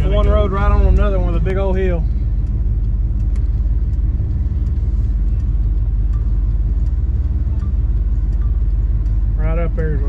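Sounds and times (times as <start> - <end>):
truck engine running inside cab: 0.0 - 10.0.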